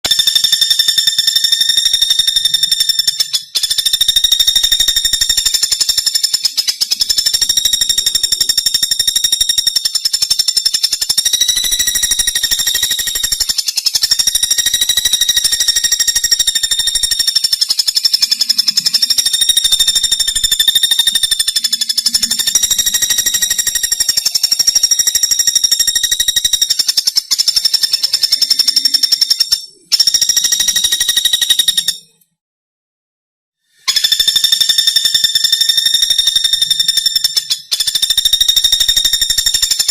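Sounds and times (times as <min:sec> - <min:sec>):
bird high-pitched trill: 0:00.0 - 0:32.2, 0:33.7 - 0:39.9.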